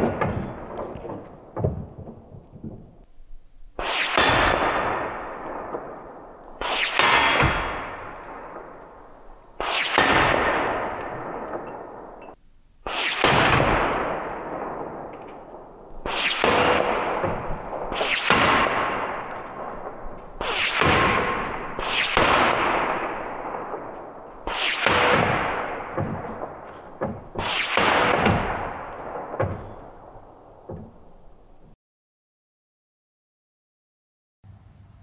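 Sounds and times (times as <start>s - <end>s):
air rifle shots: 0.0s - 3.0s, 3.7s - 31.4s.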